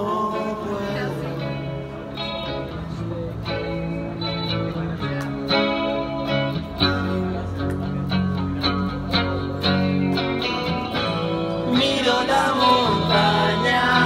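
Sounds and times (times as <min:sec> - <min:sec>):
amplified electric guitar chords: 0:00.0 - 0:14.0.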